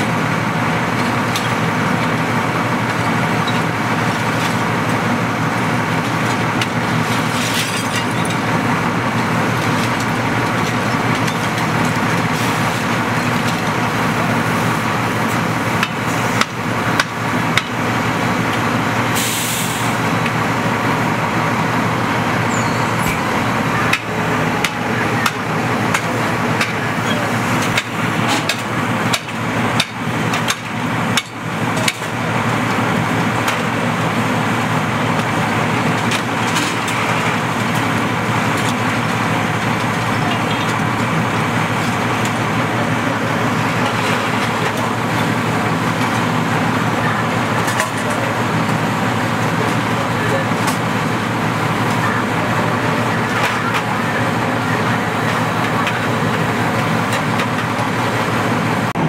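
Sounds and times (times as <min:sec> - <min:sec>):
fire engine pump running: 0:00.0 - 0:59.0.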